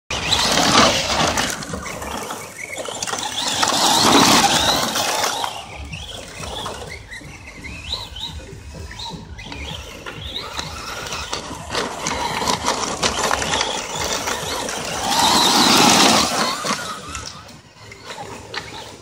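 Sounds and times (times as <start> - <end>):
electric motor whining: 0.1 - 19.0
tyres crunching on gravel: 0.1 - 19.0.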